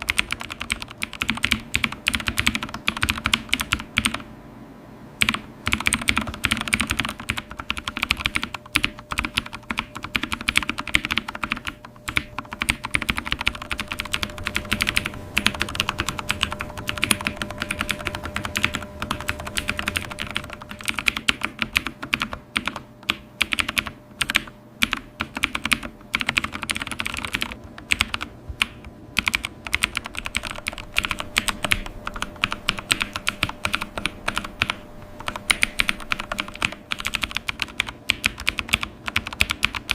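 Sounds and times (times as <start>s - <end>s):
computer keyboard typing: 0.0s - 4.3s, 5.2s - 39.9s.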